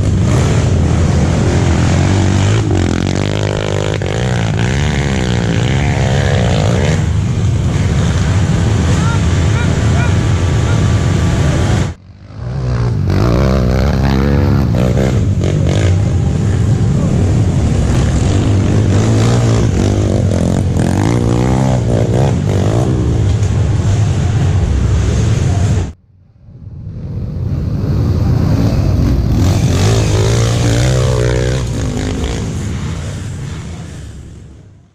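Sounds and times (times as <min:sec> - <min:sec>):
dirt bike engines revving: 0:00.0 - 0:26.0, 0:26.9 - 0:34.9.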